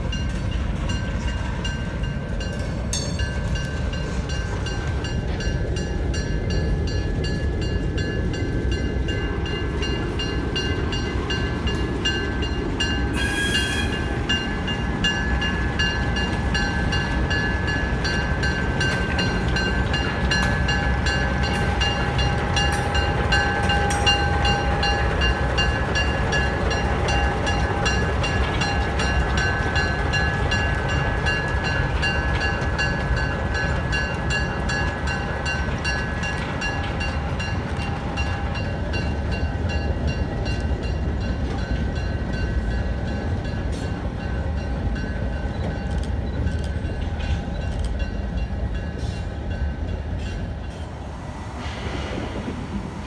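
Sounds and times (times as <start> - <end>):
diesel locomotive engine running: 0.0 - 53.0.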